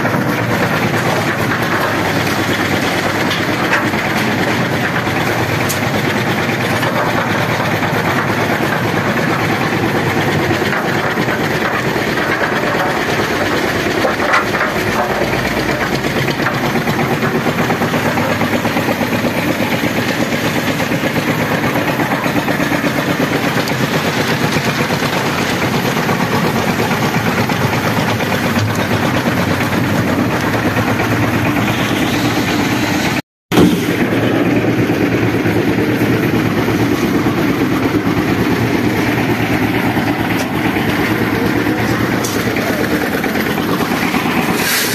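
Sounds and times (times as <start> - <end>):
concrete mixer running: 0.0 - 44.9.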